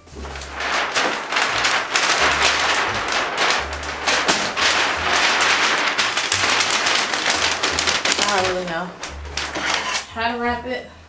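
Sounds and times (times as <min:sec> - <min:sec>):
wrapping paper crinkling: 0:00.0 - 0:10.2
background music: 0:00.0 - 0:11.0.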